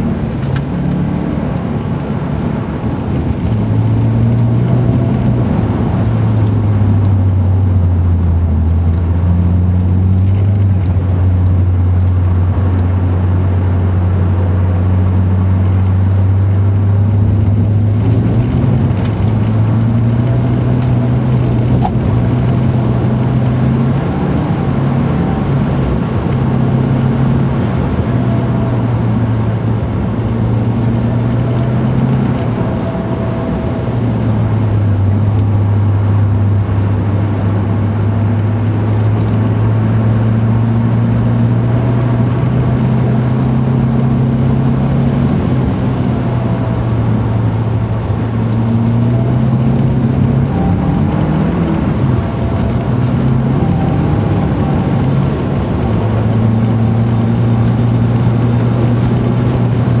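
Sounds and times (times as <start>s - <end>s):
car engine under throttle: 0.0s - 60.0s.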